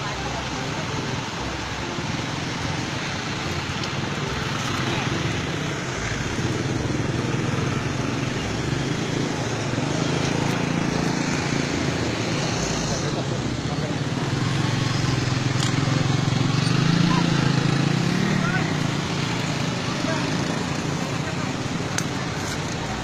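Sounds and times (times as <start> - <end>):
motorcycle engine running: 0.0 - 23.0
people talking: 0.0 - 23.0
vehicle engines running: 0.0 - 23.0.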